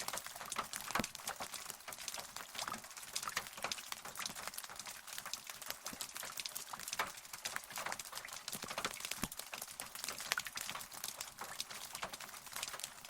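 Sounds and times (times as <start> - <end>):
rain drops tapping: 0.0 - 13.0.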